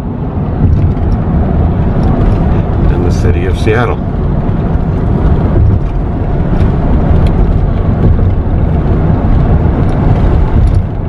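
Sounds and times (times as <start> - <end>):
car road noise from cabin: 0.0 - 11.0.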